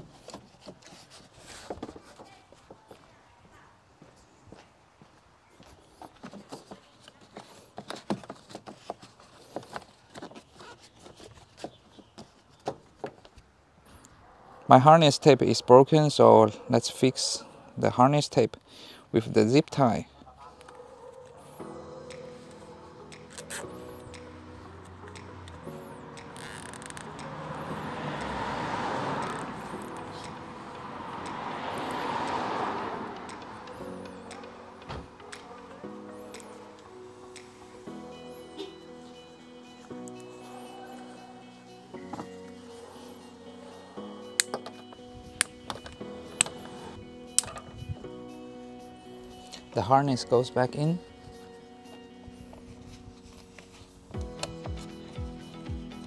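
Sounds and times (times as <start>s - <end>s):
vehicles passing: 8.4s - 56.0s.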